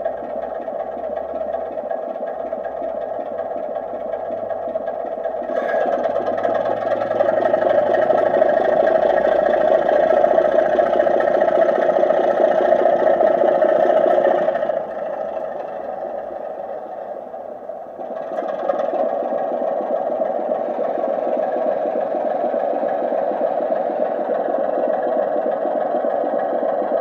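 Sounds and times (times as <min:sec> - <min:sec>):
diesel engine sound through small speaker: 0:00.0 - 0:27.0.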